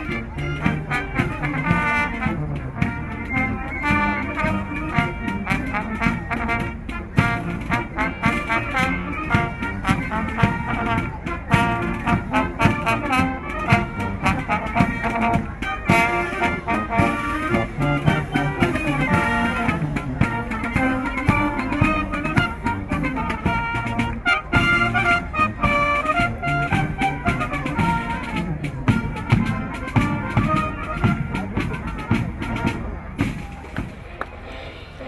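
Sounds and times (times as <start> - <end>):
brass music with drums: 0.0 - 35.0.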